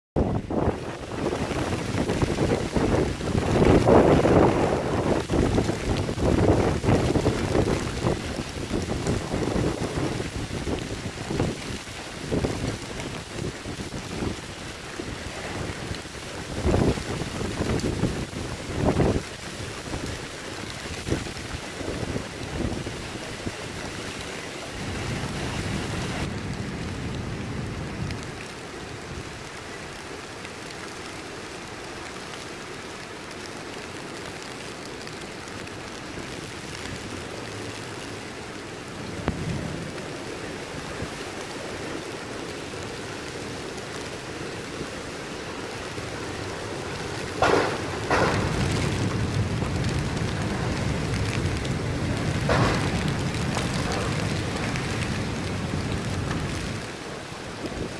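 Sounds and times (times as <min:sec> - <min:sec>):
harsh wind gusts: 0:00.2 - 0:29.4, 0:35.4 - 0:57.9
wind-driven heavy rain: 0:00.2 - 0:57.9.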